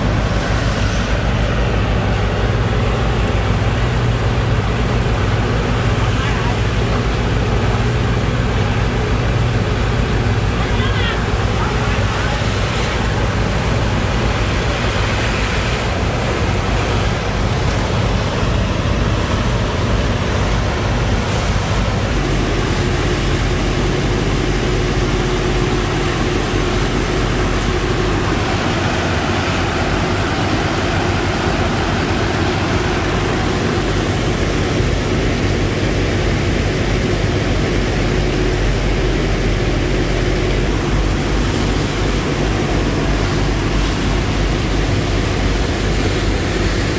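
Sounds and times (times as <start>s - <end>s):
engine-driven pump running: 0.0s - 46.9s
loud rushing noise: 0.0s - 46.9s.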